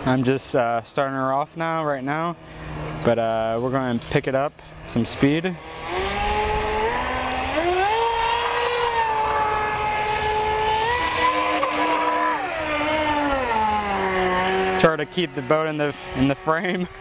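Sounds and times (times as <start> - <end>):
speedboat motor whining: 1.7 - 17.0.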